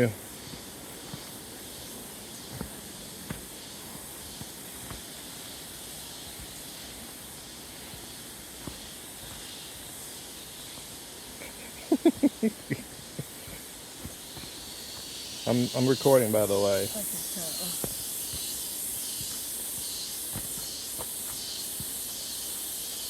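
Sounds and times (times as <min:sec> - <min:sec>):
high forest hiss: 0:00.0 - 0:23.0.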